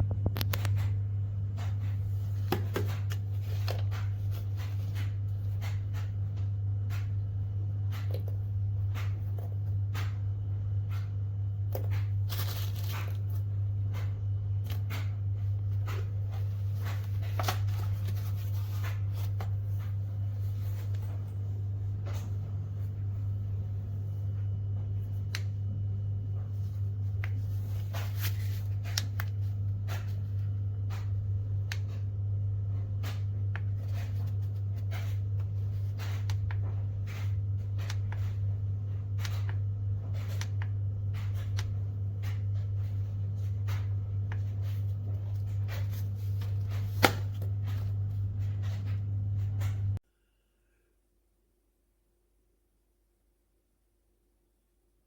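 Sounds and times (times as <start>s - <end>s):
steady low hum: 0.0s - 50.8s.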